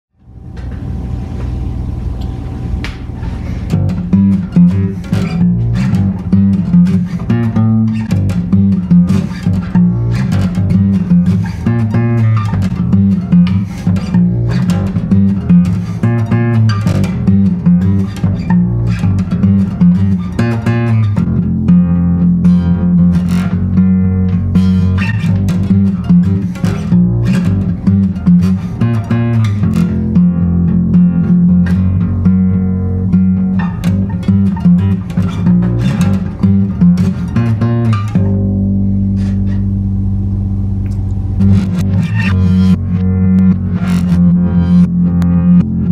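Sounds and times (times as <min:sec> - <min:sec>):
plucked acoustic bass guitar: 0:03.2 - 0:45.9.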